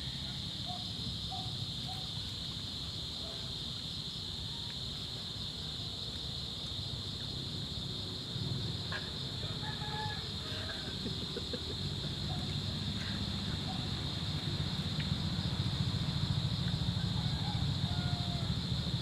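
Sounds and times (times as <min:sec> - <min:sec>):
insects chirping chorus: 0:00.0 - 0:19.0.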